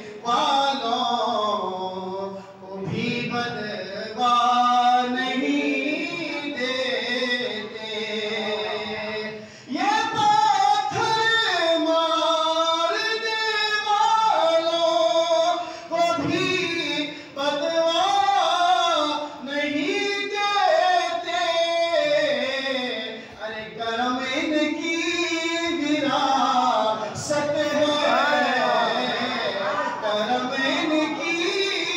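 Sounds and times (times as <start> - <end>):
man singing unaccompanied: 0.0 - 31.9.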